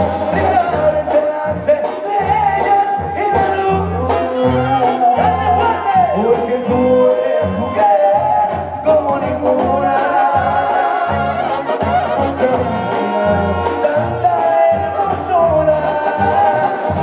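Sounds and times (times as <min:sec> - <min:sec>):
brass band playing: 0:00.0 - 0:17.0
low bass line: 0:00.0 - 0:17.0
person singing: 0:00.0 - 0:17.0.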